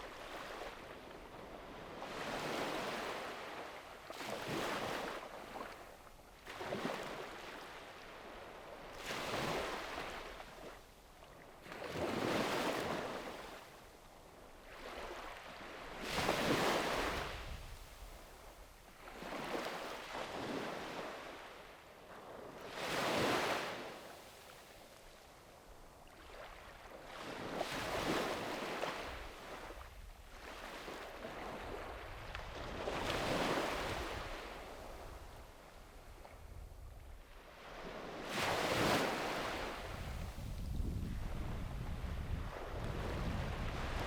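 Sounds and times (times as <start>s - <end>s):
sea waves breaking on shore: 0.0s - 13.8s, 14.4s - 44.0s.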